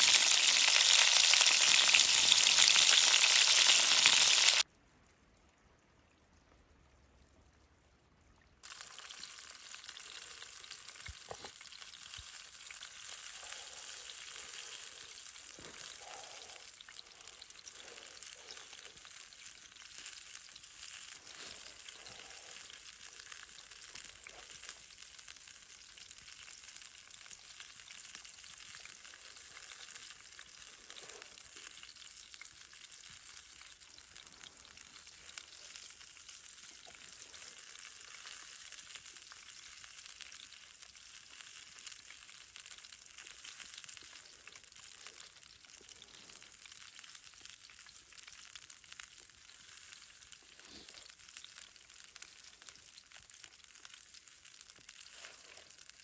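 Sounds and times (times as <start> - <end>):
food sizzling in a pan: 0.0 - 4.7, 8.6 - 56.0
small crackles: 0.0 - 56.0.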